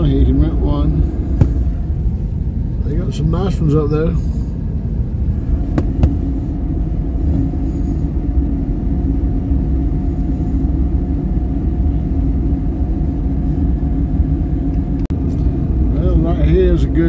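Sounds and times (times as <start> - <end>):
vehicle rumble from inside cabin: 0.0 - 17.0.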